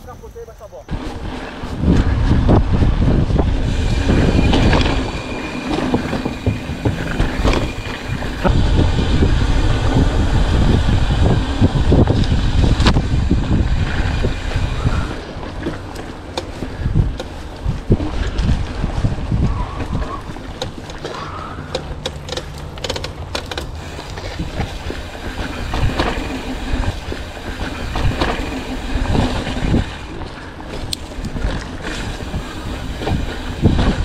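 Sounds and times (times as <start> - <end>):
wind rumbling on microphone: 0.0 - 34.0
bike tyres rolling on dirt: 0.8 - 34.0
bike rattling and clicking: 0.9 - 34.0.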